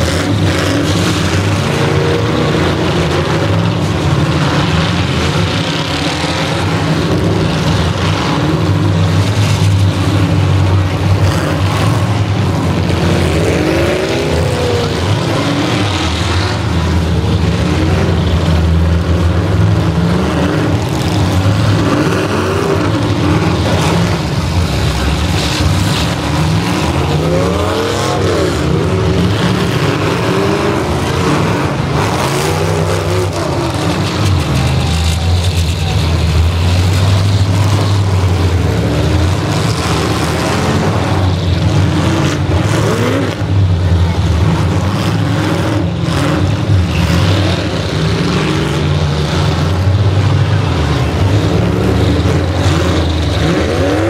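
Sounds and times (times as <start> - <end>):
car engines revving: 0.0 - 54.0
cars ramming each other: 0.0 - 54.0.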